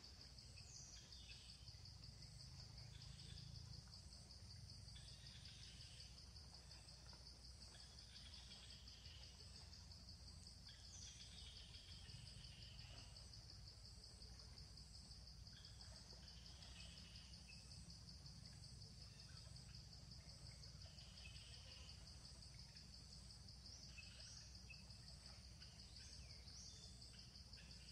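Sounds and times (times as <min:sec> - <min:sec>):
insects chirring: 0:00.0 - 0:27.9.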